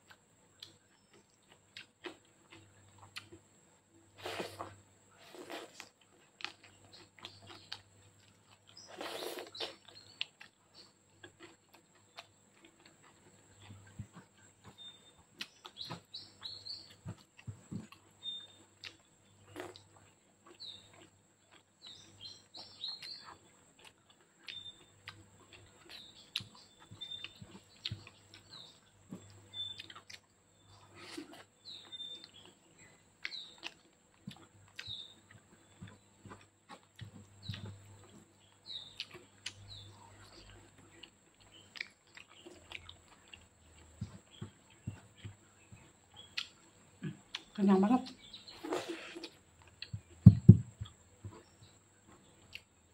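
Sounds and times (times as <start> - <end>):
small birds chirping: 0.0 - 52.9
wet chewing and lip smacks: 5.3 - 50.2, 50.8 - 52.8.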